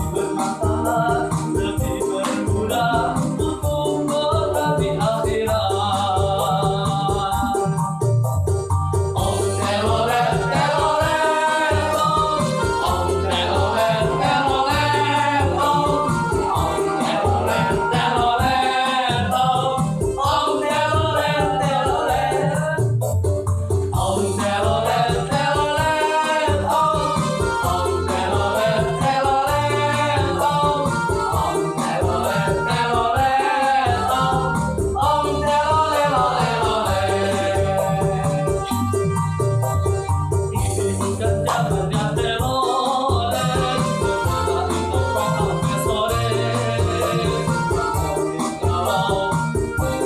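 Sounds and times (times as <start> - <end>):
song with sung melody: 0.0 - 50.0.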